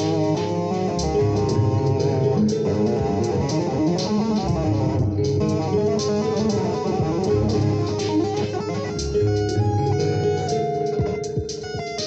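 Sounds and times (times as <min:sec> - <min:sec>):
electric guitar tapping: 0:00.0 - 0:12.0.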